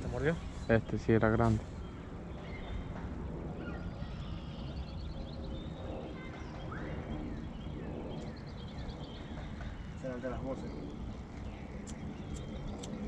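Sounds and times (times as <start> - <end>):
songbirds chirping and whistling: 0.0 - 13.0
steady low rumble: 0.0 - 13.0.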